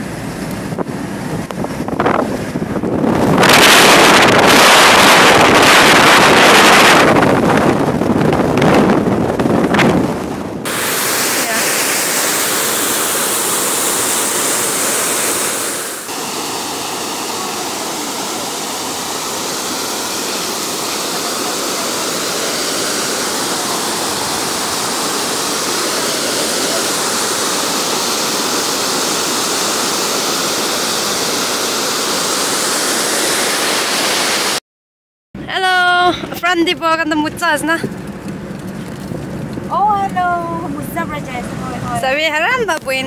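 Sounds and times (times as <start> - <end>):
floodwater rushing over weir: 0.0 - 34.6.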